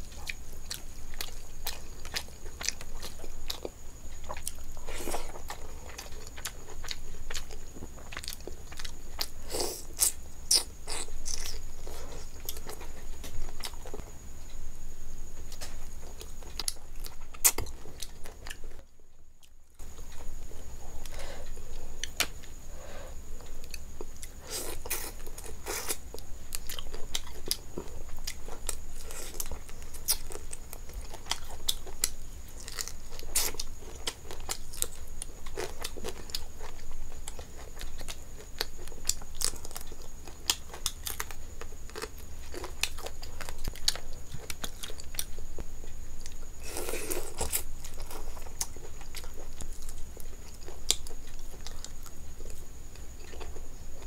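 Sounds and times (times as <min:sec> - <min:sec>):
close chewing and mouth sounds: 0:00.0 - 0:14.6, 0:15.4 - 0:18.8, 0:19.4 - 0:22.6, 0:23.3 - 0:54.0.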